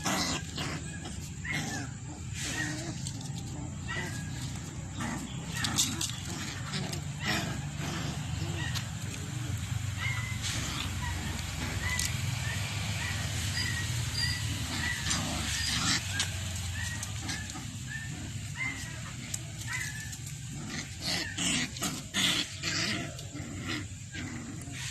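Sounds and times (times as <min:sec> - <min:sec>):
puppies scuffling: 0:00.0 - 0:23.3
puppies yipping: 0:00.0 - 0:24.9.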